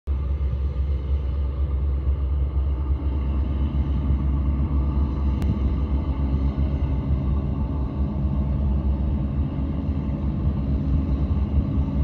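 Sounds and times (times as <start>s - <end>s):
boat diesel engine drone: 0.1s - 12.0s.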